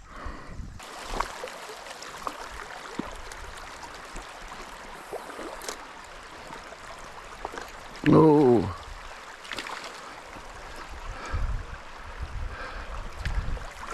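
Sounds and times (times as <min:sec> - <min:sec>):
stream water running: 0:00.0 - 0:13.9
small ticks and splashes: 0:00.8 - 0:11.9, 0:12.9 - 0:13.9.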